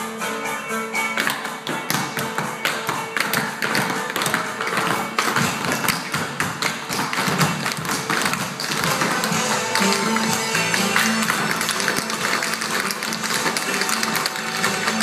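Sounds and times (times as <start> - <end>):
recorded dance music: 0.0 - 15.0
shoes tapping on wooden floor: 1.1 - 15.0.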